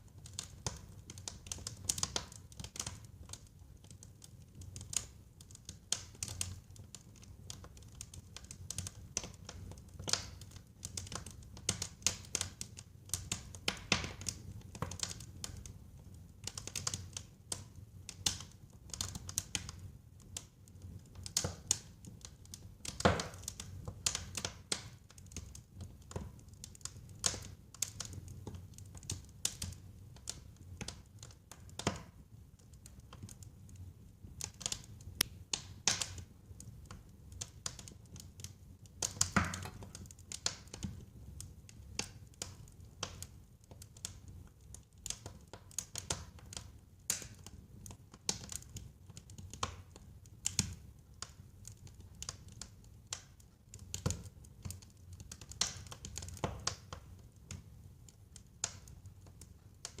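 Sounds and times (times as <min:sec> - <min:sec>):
fire crackling and popping: 0:00.0 - 1:00.0.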